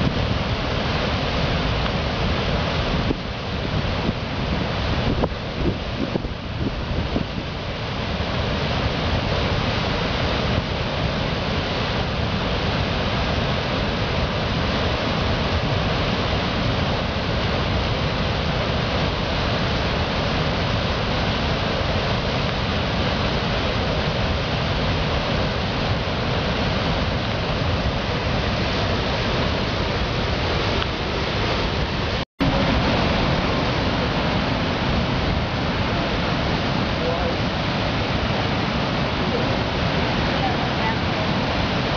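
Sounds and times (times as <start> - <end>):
waterfall roaring: 0.0 - 41.9.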